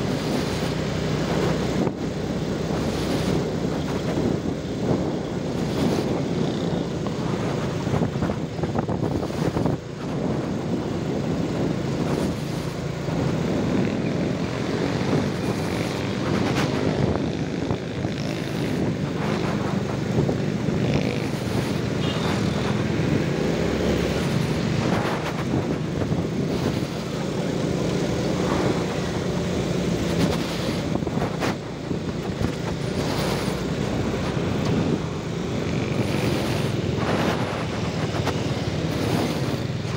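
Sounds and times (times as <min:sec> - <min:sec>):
motorbike engine drone: 0:00.0 - 0:39.9
motorbikes passing: 0:00.0 - 0:39.9
road noise: 0:00.0 - 0:39.9.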